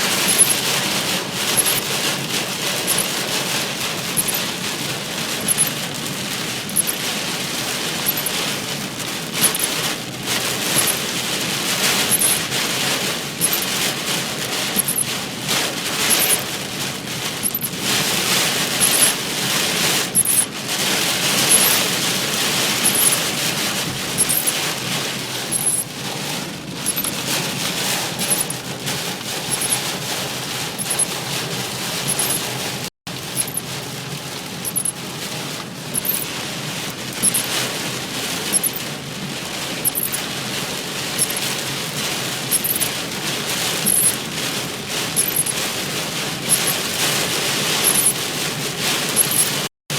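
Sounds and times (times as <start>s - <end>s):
heavy rain on car roof: 0.0s - 49.7s.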